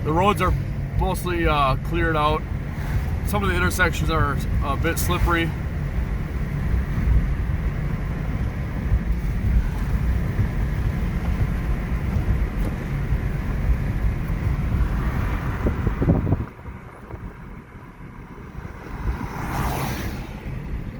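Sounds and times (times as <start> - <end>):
car engine and tyres rumbling: 0.0 - 20.9.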